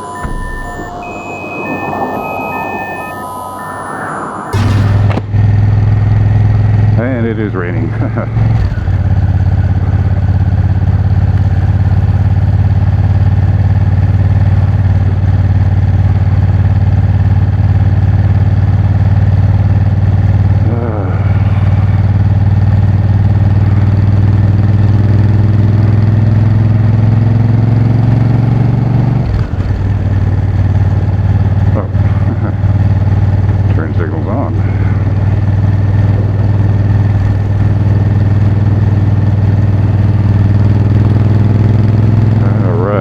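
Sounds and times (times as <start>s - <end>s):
motorcycle engine running: 4.6s - 43.0s.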